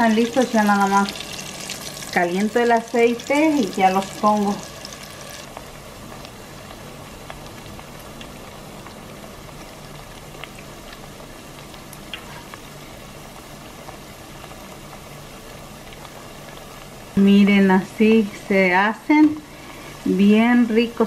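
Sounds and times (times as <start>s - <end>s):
oil bubbling and popping: 0.0s - 17.2s.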